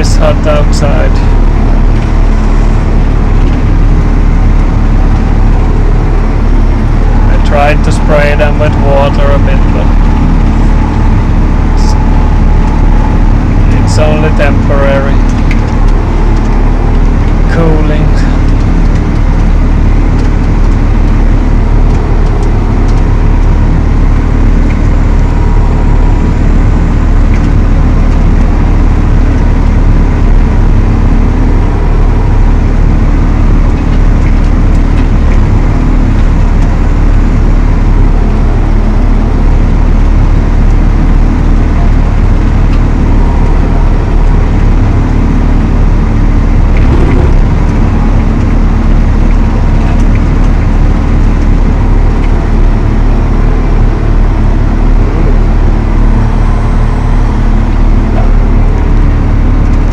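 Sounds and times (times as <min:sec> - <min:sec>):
flail mower working: 0:00.0 - 0:59.9
tractor engine running: 0:00.0 - 0:59.9.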